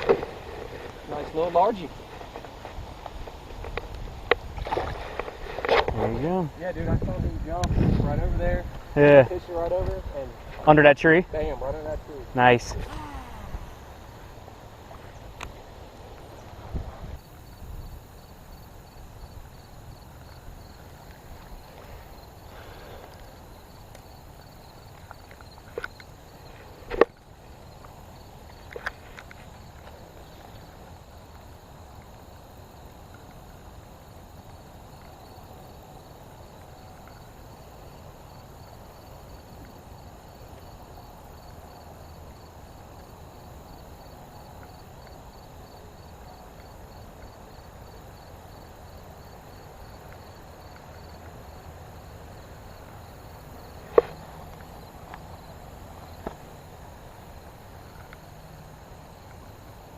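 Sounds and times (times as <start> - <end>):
insect chirping high-pitched: 8.8 - 59.9.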